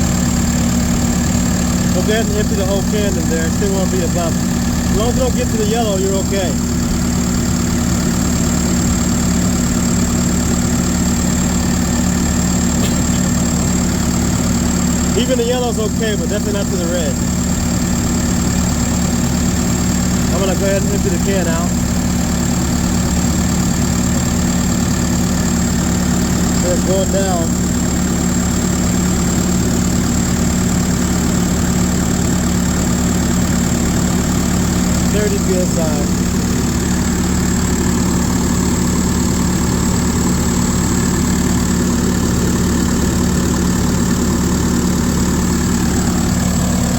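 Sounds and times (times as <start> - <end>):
air-conditioning compressor running: 0.0 - 46.9
diesel engine idling: 0.0 - 46.9.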